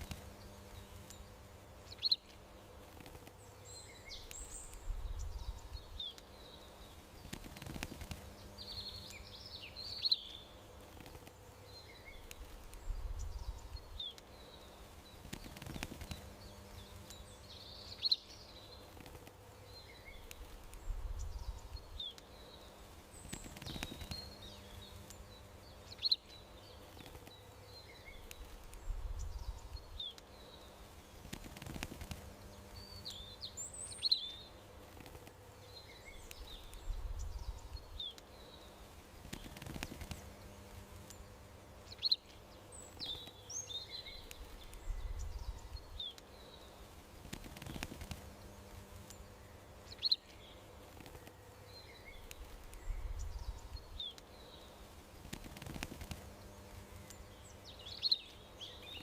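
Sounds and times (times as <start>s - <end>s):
faint steady hum: 0.0s - 59.0s
small birds chirping: 0.0s - 59.0s.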